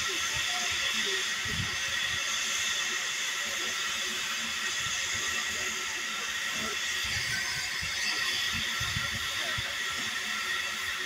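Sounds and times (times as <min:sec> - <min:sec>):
steam hissing from safety valves: 0:00.0 - 0:11.0.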